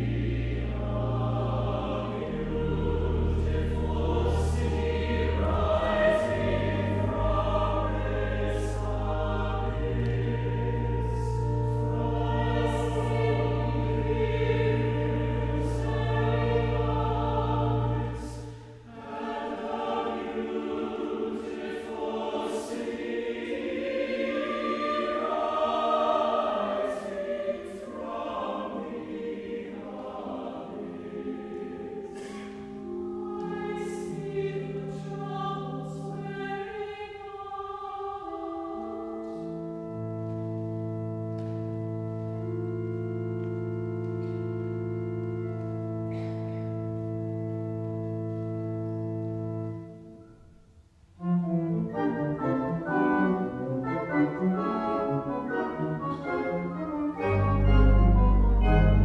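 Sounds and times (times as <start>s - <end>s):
pipe organ chords: 0.0s - 29.1s, 38.1s - 50.3s, 51.2s - 59.0s
choir singing: 0.0s - 50.2s, 51.2s - 59.0s.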